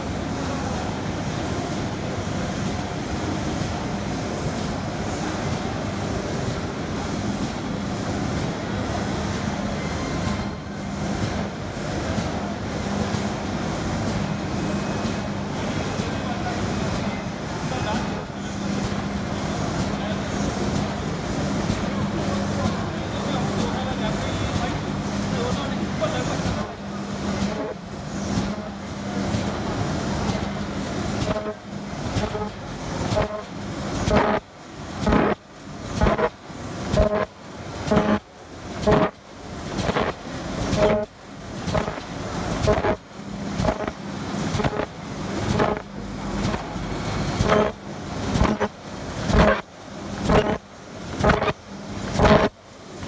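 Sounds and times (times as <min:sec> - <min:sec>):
machine whirring and humming: 0:00.0 - 0:53.0.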